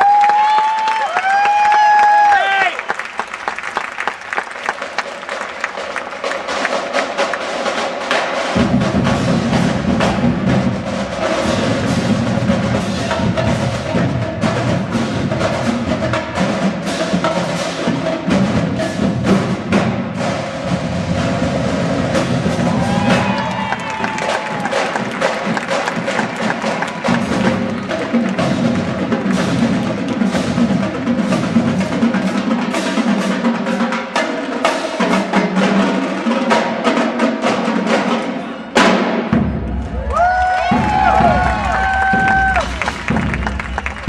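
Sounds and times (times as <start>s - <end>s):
marching drumline playing: 3.4s - 44.0s.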